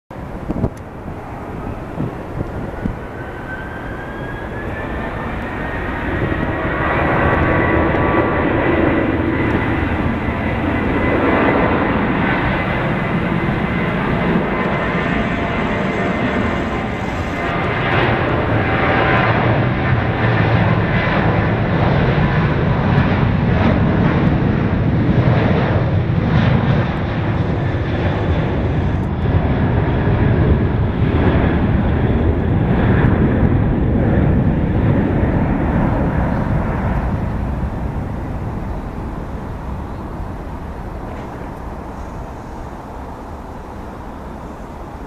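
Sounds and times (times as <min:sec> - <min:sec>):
jet engine roar: 0:00.1 - 0:45.0.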